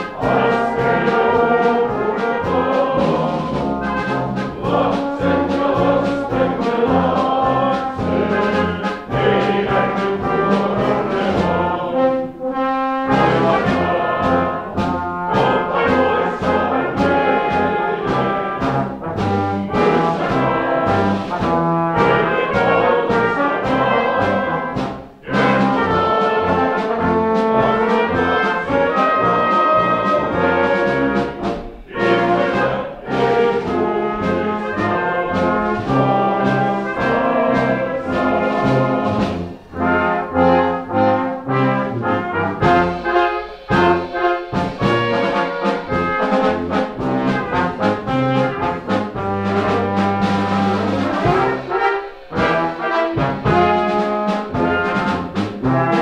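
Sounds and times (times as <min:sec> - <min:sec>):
trombones and trumpets chords: 0:00.0 - 0:56.0
wind band playing: 0:00.0 - 0:56.0.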